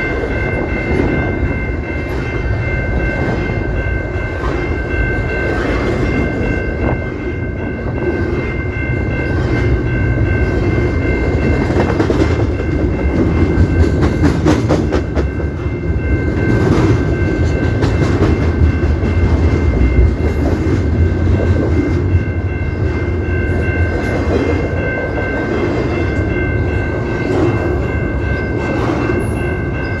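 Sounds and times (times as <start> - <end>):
train rumbling past: 0.0 - 30.0.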